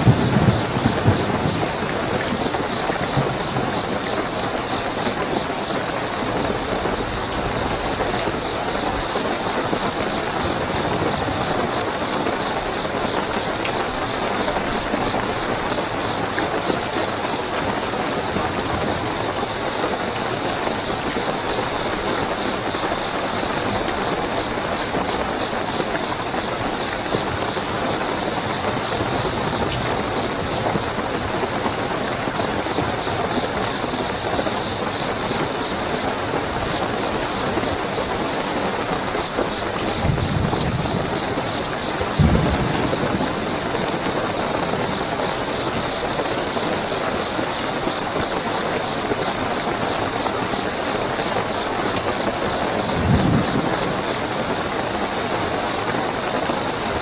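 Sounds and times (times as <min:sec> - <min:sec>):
crickets trilling: 0:00.0 - 0:57.0
heavy rainfall: 0:00.0 - 0:57.0.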